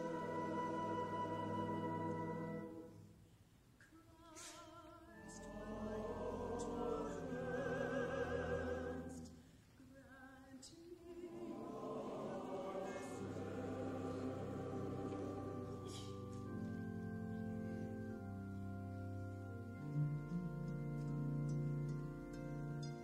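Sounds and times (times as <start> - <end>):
choir and orchestra: 0.0 - 3.1, 4.3 - 23.0.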